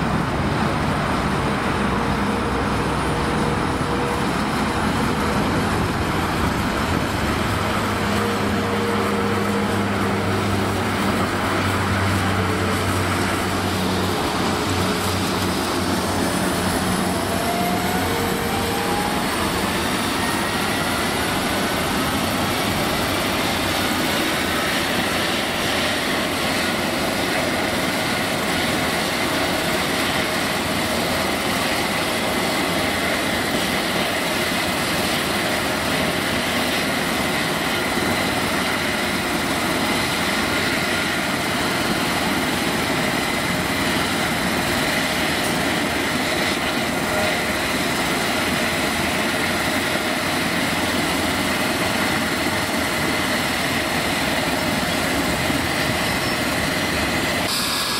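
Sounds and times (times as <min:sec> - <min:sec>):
helicopter turbine whine: 0:00.0 - 0:57.9
rushing rotor and engine noise: 0:00.0 - 0:57.9.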